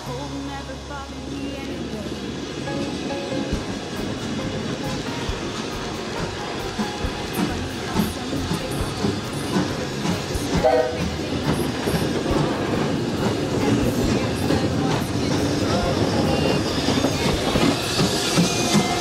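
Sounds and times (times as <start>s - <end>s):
steam locomotive rumbling: 0.0s - 19.0s
wheels clanking on rails: 0.0s - 19.0s.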